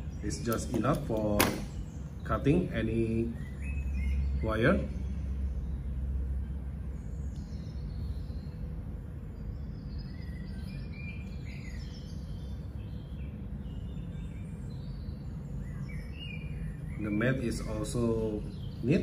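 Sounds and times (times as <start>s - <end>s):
birds chirping: 0.0s - 19.0s
low background rumble: 0.0s - 19.0s.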